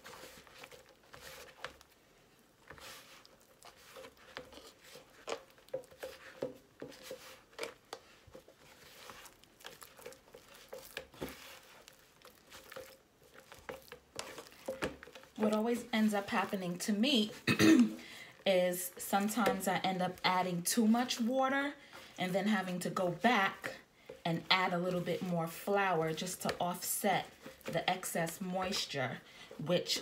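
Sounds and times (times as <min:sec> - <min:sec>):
hands kneading dough in plastic tub: 0:00.0 - 0:17.5, 0:18.3 - 0:30.0.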